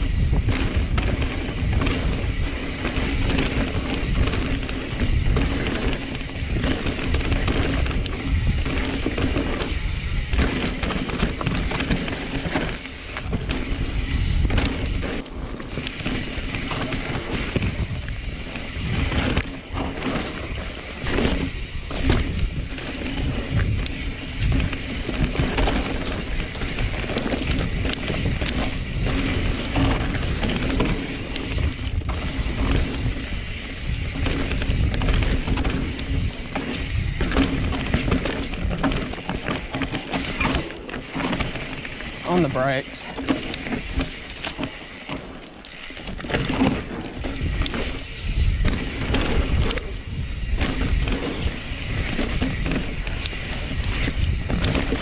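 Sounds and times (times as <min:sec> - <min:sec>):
bike freehub ratchet clicking: 0:00.0 - 0:55.0
tyres rumbling on dirt: 0:00.0 - 0:55.0.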